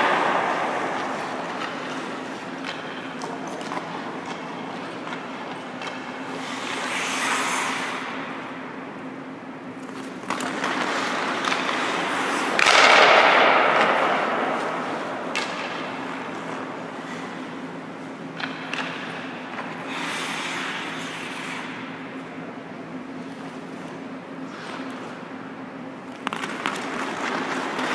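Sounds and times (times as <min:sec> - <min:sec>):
skates scraping on ice: 0:00.0 - 0:09.0, 0:09.7 - 0:27.9
faint steady hum: 0:00.0 - 0:27.9
hockey stick and puck clacks: 0:00.0 - 0:27.9.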